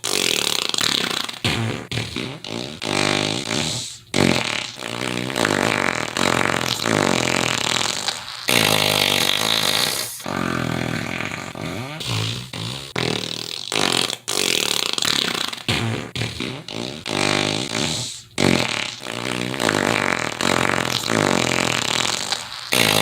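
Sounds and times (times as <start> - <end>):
buzzing fart sounds: 0.0 - 23.0.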